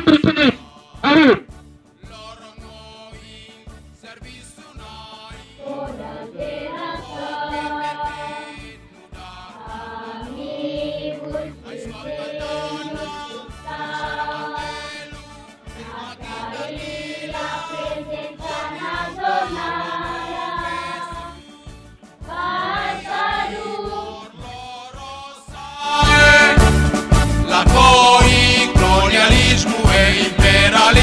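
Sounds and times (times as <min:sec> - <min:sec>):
music with a steady beat: 0:00.0 - 0:31.0
group singing a melody: 0:04.6 - 0:31.0.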